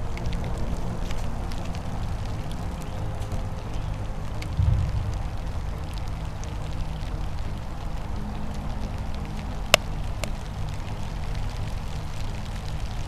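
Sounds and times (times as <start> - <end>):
steady rushing noise: 0.0 - 13.0
wood fire crackling: 0.0 - 13.0.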